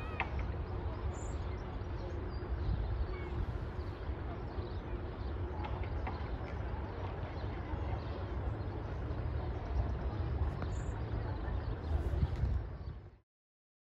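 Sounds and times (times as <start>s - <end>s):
low outdoor rumble: 0.0s - 13.2s.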